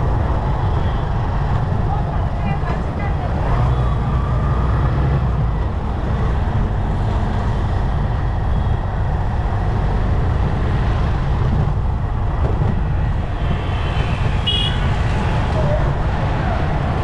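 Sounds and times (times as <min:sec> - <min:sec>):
wind noise: 0:00.0 - 0:17.0.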